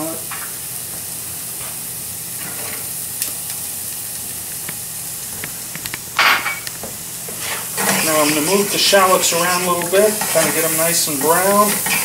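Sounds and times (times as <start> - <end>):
shallots sizzling in a pan: 0.0 - 12.0.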